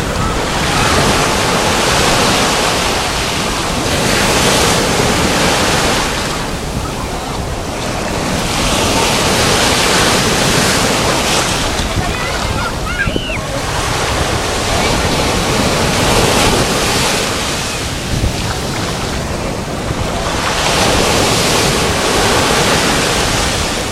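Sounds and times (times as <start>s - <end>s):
small waves breaking on sand: 0.0s - 23.9s
wind buffeting microphone: 0.0s - 23.9s.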